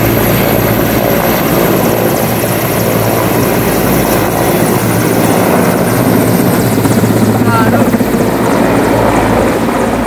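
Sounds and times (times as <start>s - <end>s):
helicopter rotor and engines: 0.0s - 10.0s.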